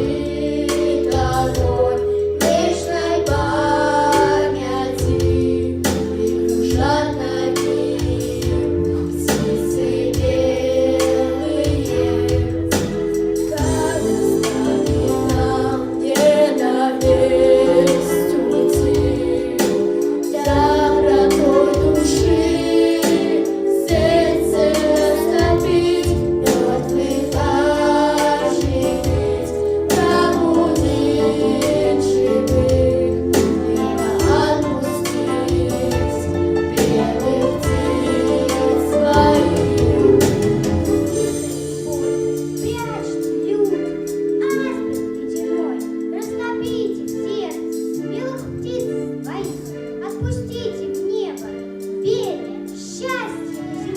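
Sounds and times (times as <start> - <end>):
backing track chords: 0.0 - 50.4.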